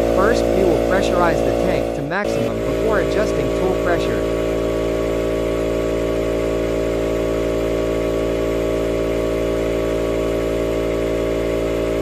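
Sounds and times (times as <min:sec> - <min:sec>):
air compressor motor running: 0:00.0 - 0:12.0.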